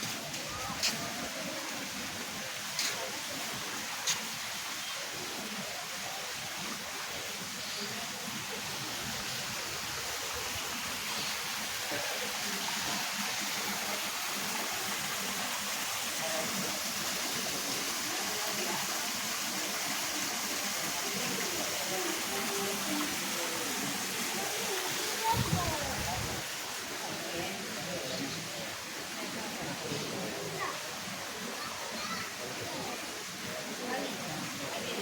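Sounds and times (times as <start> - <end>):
water rushing: 0.0 - 35.0.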